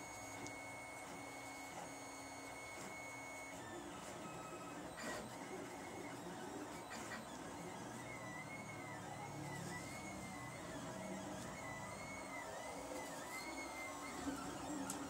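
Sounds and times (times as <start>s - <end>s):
printer stepper motors whining: 0.0s - 15.0s.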